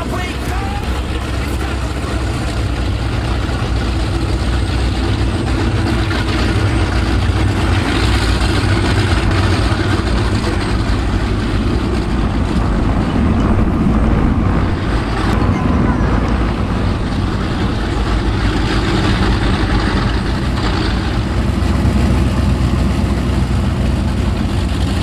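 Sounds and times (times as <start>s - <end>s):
powerboat engines idling: 0.0s - 25.0s.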